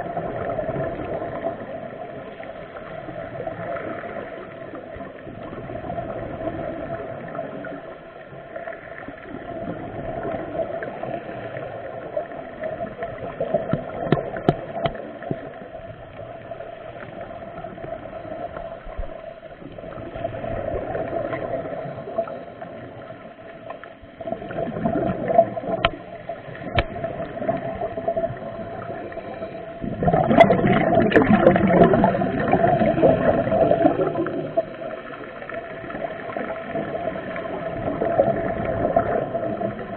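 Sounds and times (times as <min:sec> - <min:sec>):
diver's bubbles gurgling underwater: 0:00.0 - 0:39.9.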